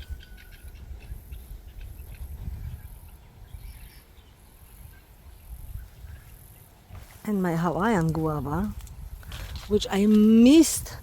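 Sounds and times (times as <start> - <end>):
insects chirring: 0.0 - 9.3.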